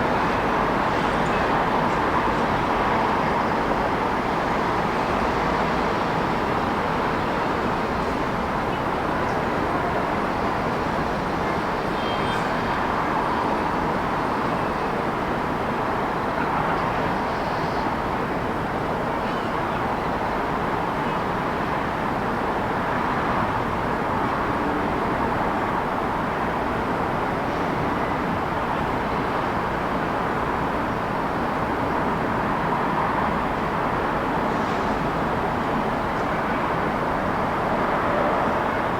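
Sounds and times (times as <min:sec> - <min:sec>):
city road traffic: 0:00.0 - 0:38.9.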